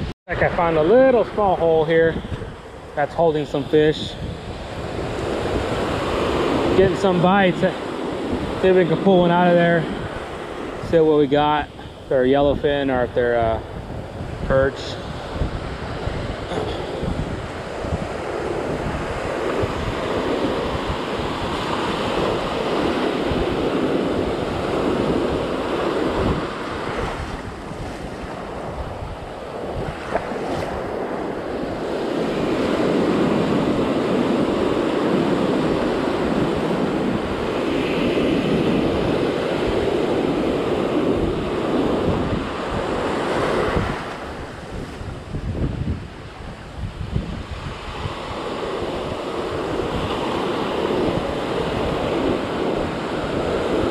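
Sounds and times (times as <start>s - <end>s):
ocean surf washing on sand: 0.0s - 53.9s
wind buffeting microphone: 0.0s - 53.9s.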